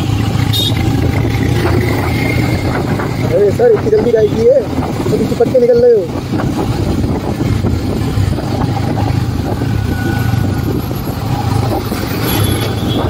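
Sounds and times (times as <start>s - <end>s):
motorcycle engine running: 0.0s - 13.0s
road noise: 0.0s - 13.0s
wind noise: 0.0s - 13.0s.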